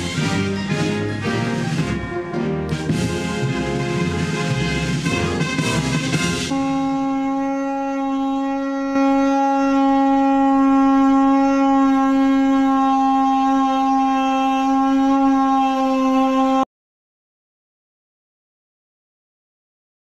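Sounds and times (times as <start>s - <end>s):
pipe horn blowing steady note: 0.0s - 16.7s.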